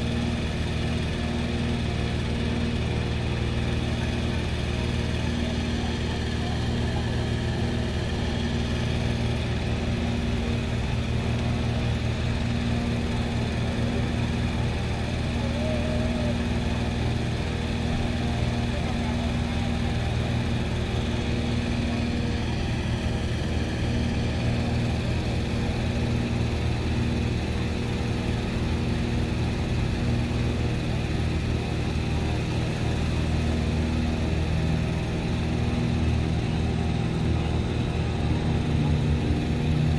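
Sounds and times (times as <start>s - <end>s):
petrol engine fan running: 0.0s - 39.9s.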